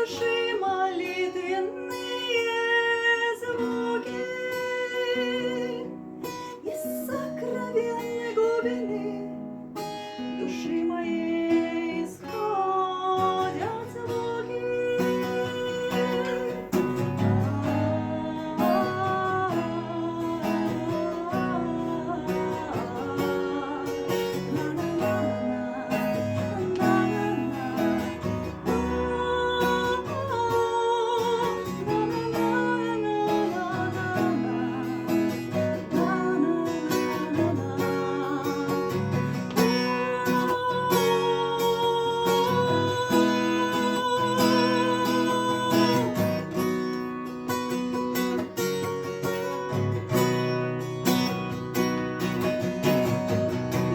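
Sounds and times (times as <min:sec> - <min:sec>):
person singing without words: 0:00.0 - 0:09.5, 0:10.2 - 0:46.7
acoustic guitar: 0:00.0 - 0:53.9.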